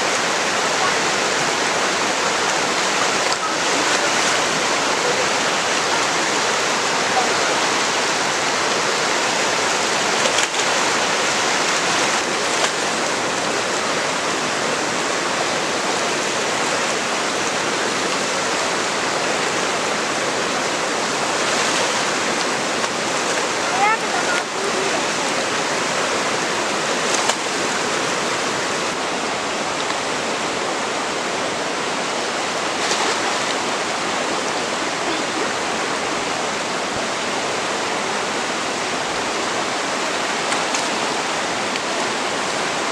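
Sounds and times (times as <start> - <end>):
mountain river rushing: 0.0 - 42.9.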